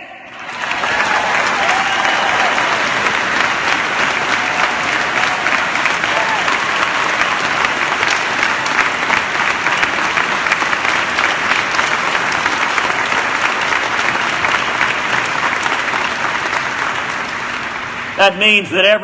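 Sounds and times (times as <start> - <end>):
crowd applauding: 0.3 - 18.5.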